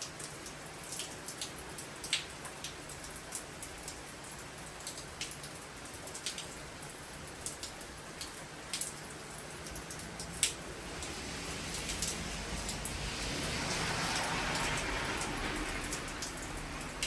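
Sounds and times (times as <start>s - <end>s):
heavy rain falling: 0.0s - 17.0s
raindrops tapping close by: 0.0s - 17.0s.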